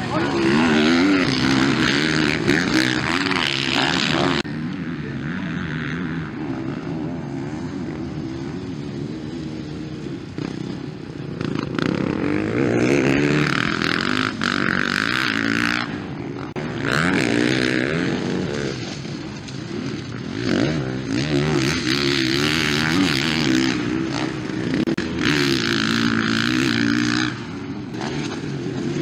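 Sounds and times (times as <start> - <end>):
motocross bike engines revving: 0.0 - 29.0.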